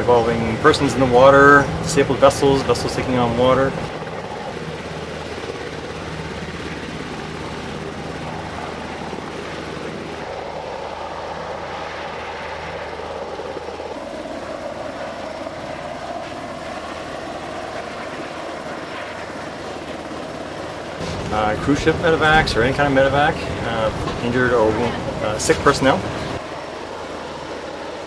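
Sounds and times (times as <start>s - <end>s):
helicopter rotor and turbine drone: 0.0s - 28.0s.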